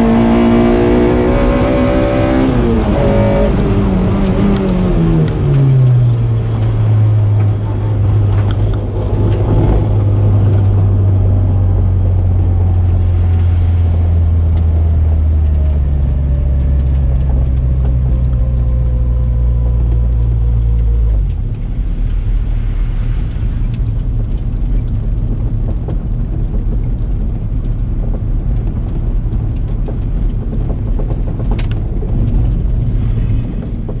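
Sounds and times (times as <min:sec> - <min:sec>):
car engine heard from inside: 0:00.0 - 0:34.0.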